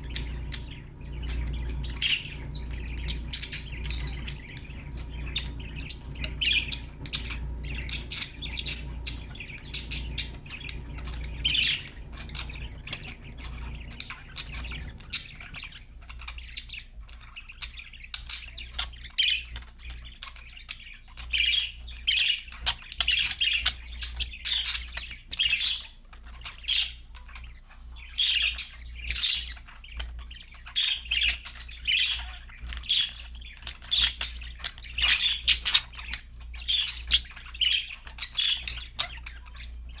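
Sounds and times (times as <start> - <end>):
budgerigars chirping and squawking: 0.0 - 40.0
low steady hum: 0.0 - 40.0.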